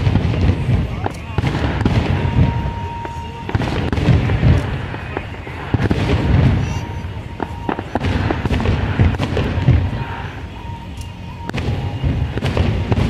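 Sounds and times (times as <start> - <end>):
low rumble of booms: 0.0 - 10.6, 11.2 - 13.0
fireworks bangs and crackles: 0.0 - 13.0.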